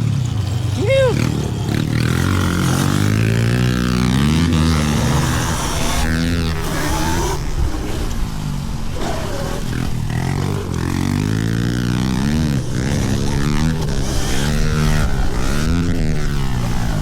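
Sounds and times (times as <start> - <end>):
pit bike engines revving: 0.0 - 17.0.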